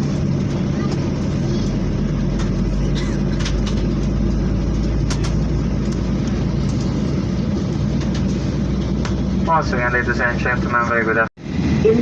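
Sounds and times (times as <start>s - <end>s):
aircraft cabin drone and hiss: 0.0s - 12.0s.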